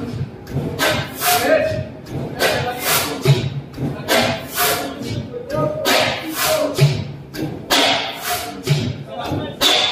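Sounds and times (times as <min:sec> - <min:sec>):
diesel engine exhaust beating: 0:00.0 - 0:09.9.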